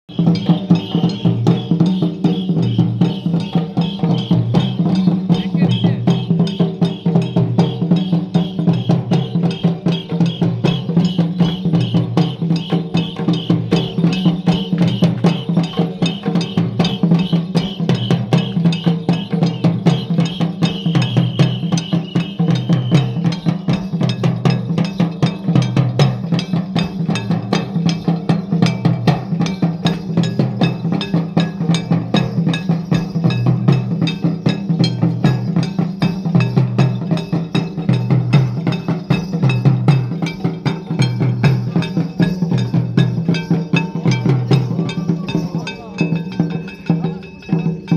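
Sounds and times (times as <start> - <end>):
barrel drums played by hand: 0.1 - 47.9.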